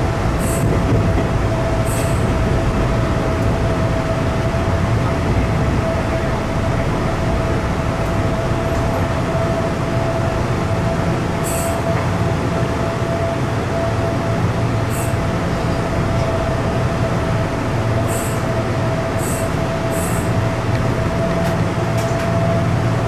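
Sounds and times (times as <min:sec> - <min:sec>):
wheels rumbling on track: 0:00.0 - 0:23.0.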